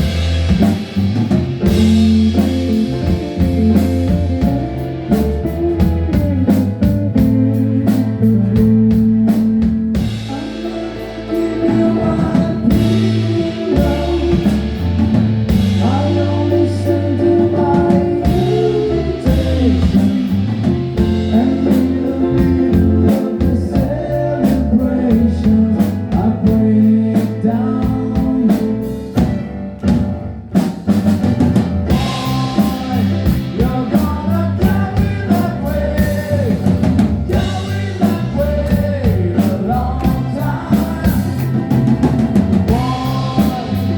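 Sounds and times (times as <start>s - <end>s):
drums and guitar: 0.0s - 43.9s
person singing: 1.6s - 29.3s, 31.9s - 43.9s.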